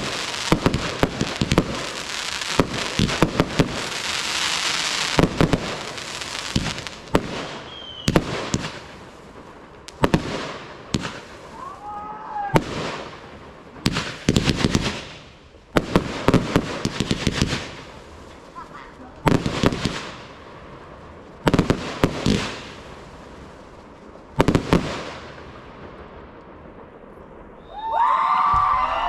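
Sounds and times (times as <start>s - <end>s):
fireworks bangs: 0.0s - 29.0s
fireworks crackling hiss: 0.0s - 29.0s.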